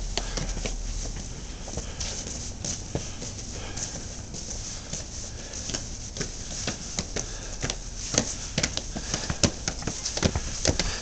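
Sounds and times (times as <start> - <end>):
footsteps on pavement and steps: 0.0 - 11.0.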